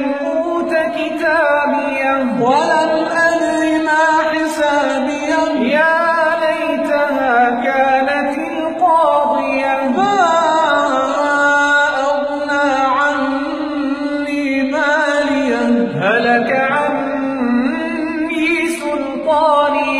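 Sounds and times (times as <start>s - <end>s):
men reciting melodically: 0.0s - 19.9s.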